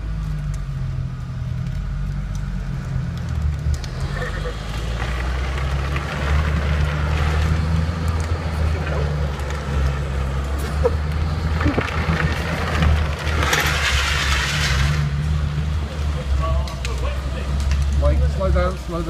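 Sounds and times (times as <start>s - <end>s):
car engine running: 0.0s - 19.0s
wheels sliding on concrete: 2.7s - 19.0s.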